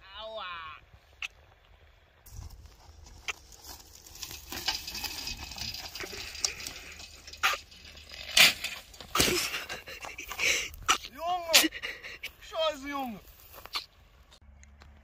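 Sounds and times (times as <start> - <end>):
crunching movement on dirt track: 0.8 - 15.0.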